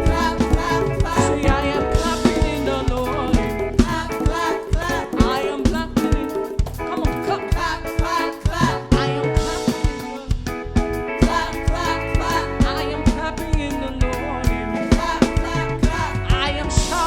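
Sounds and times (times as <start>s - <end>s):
people singing: 0.0s - 10.4s, 11.2s - 17.0s
drum kit playing a steady beat: 0.0s - 17.0s.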